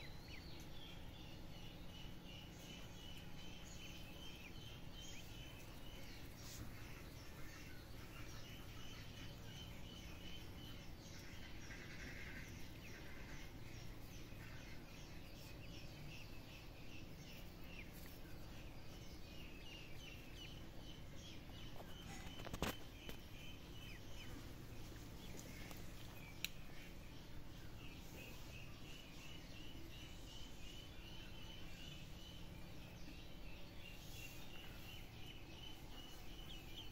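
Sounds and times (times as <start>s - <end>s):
bird chirping: 0.0s - 36.9s
outdoor background noise: 0.0s - 36.9s.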